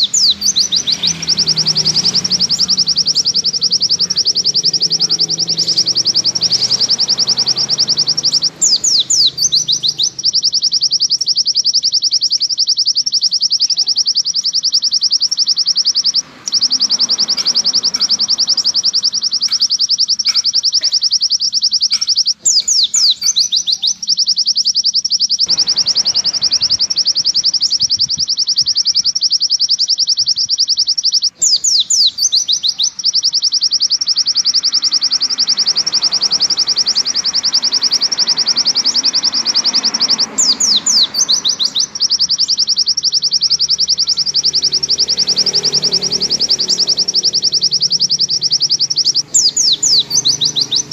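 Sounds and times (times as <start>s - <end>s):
bird down-slurred notes: 0.0s - 50.9s
bird fast high trill: 0.0s - 50.9s.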